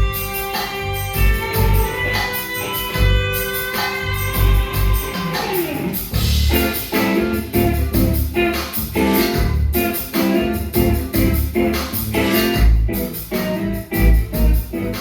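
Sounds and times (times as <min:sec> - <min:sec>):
bass and drums: 0:00.0 - 0:15.0
electric guitar: 0:00.0 - 0:15.0.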